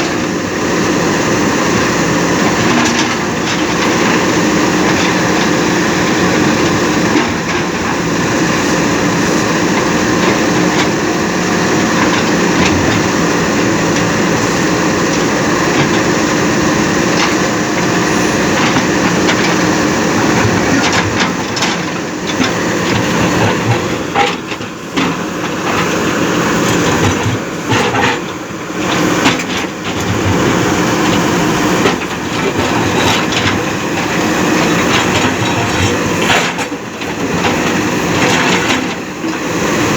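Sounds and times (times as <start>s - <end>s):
backhoe diesel engines: 0.0s - 39.9s.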